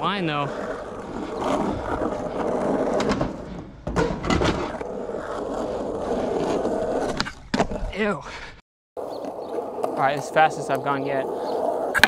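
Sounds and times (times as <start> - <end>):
skateboard wheels rolling on concrete: 0.0 - 7.9, 9.0 - 12.0.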